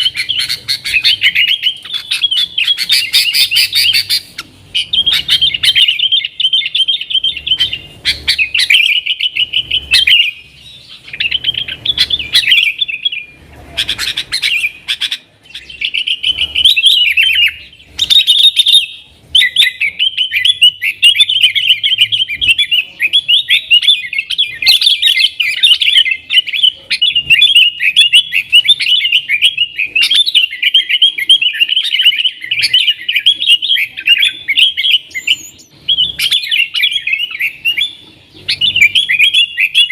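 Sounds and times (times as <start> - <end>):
bulbul singing chattering warble: 0.0 - 39.9.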